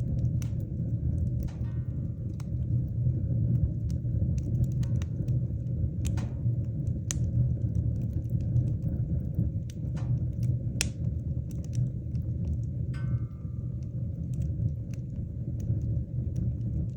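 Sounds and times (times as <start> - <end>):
fire rumbling: 0.0 - 16.9
logs crackling and popping: 0.0 - 16.9.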